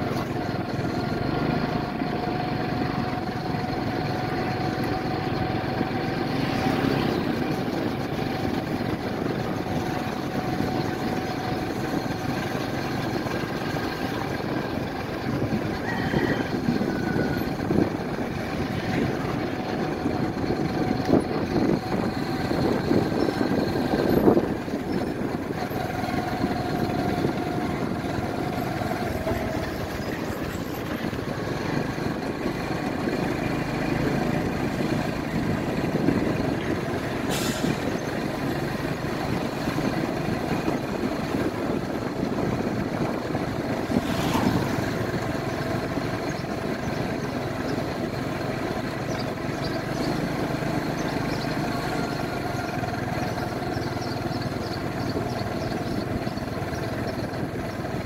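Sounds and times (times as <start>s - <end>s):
motorbike engine running: 0.0s - 58.0s
road and wind noise: 0.0s - 58.0s.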